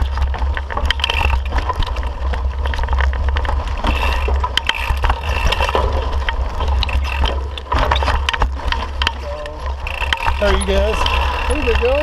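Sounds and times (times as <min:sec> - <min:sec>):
mountain bike rattling over rocks: 0:00.0 - 0:12.0
wind rumble on microphone: 0:00.0 - 0:12.0.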